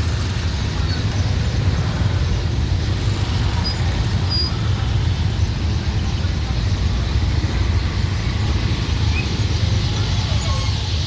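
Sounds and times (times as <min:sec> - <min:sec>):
city traffic passing: 0:00.0 - 0:11.0.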